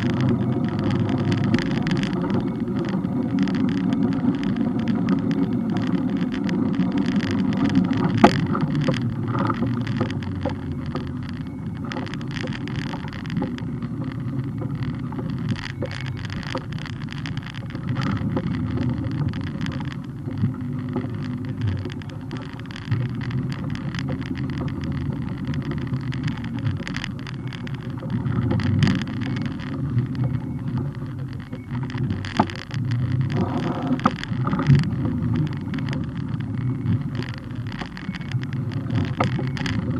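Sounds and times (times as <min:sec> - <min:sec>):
road rumble: 0:00.0 - 0:39.9.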